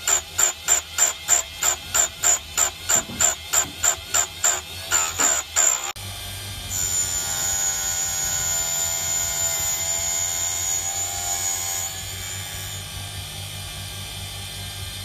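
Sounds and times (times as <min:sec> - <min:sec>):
grinding motor humming: 0:00.0 - 0:15.0
high-pitched grinding whine: 0:00.0 - 0:15.0.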